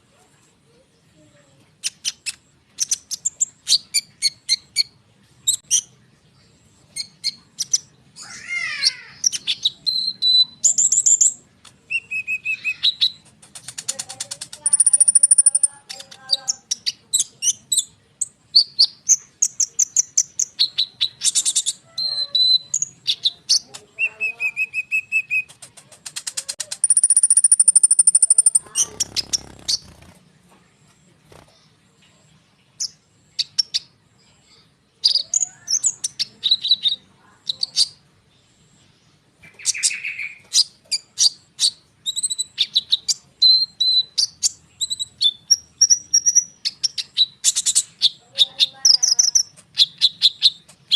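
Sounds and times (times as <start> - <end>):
songbird singing: 0.0 - 50.9.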